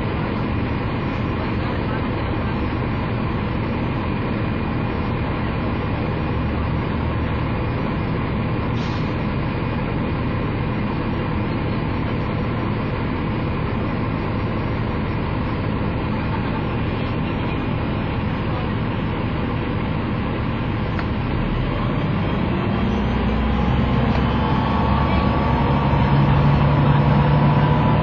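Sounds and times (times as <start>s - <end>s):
diesel bus engine idling: 0.0s - 28.0s.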